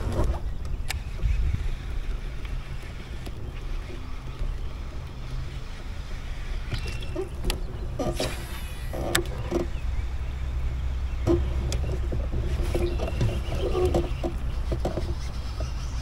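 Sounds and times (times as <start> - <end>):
water around kayak: 0.0 - 16.0
wind rumble on microphone: 0.0 - 16.0.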